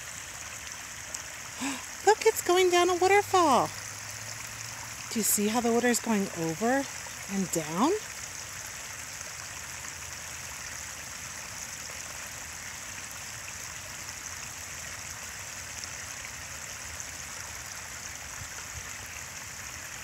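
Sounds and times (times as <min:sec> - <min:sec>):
small waterfall splashing: 0:00.0 - 0:20.0.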